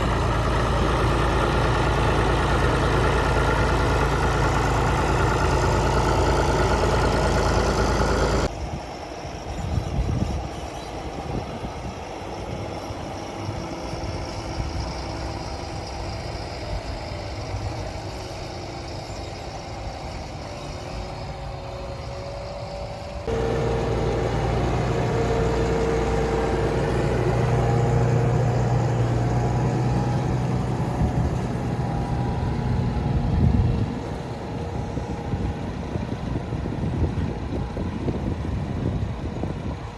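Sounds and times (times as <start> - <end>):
tractor engines running: 0.0 - 9.5, 10.4 - 39.9.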